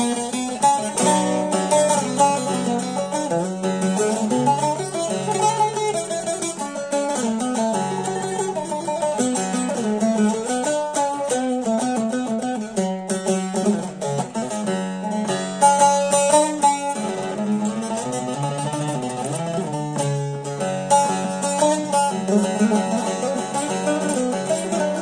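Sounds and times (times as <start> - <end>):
plucked lute melody: 0.0 - 25.0.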